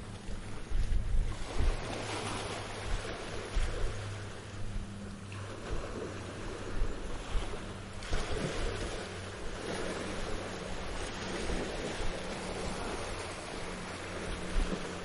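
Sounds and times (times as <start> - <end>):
low steady hum: 0.0 - 15.0
sea waves washing onto beach: 0.0 - 15.0.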